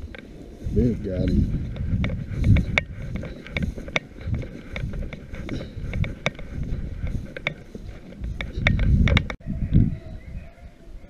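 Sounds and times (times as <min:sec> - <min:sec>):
dry brush crackling: 0:00.0 - 0:09.4
wind rumble on microphone: 0:00.0 - 0:11.0.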